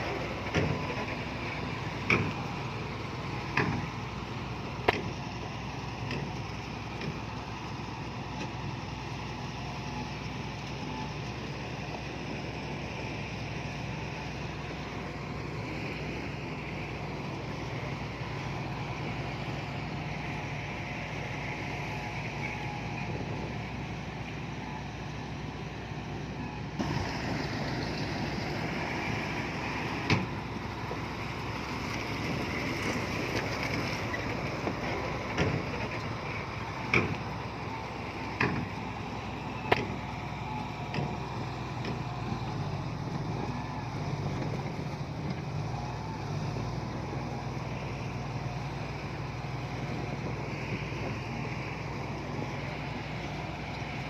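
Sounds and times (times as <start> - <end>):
heavy machinery diesel engine running: 0.0 - 54.0.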